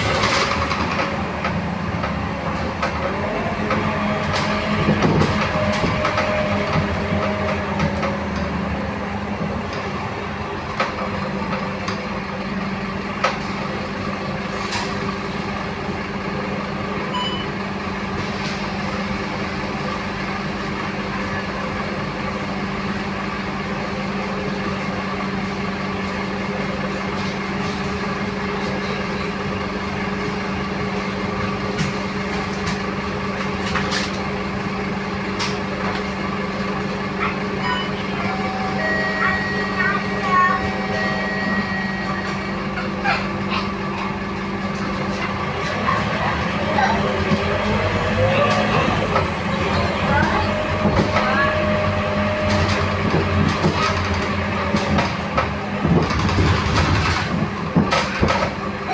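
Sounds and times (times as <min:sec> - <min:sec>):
bus diesel engine droning: 0:00.0 - 0:58.9.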